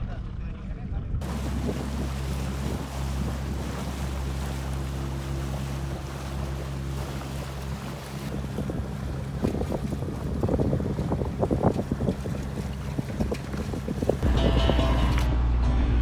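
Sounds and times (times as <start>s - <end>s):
wind rumbling on microphone: 0.2s - 15.3s
boat motor running: 1.2s - 15.3s
water noise: 1.2s - 15.3s.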